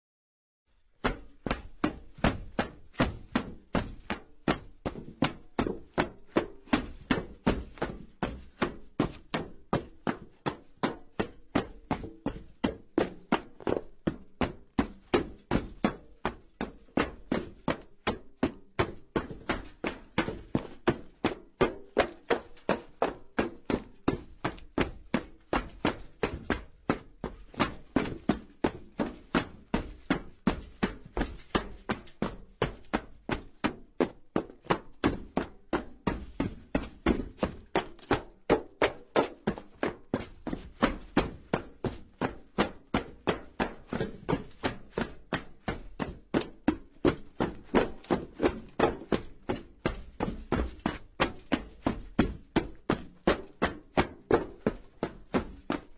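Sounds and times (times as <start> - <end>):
footsteps running on metal roof: 0.8 - 55.9.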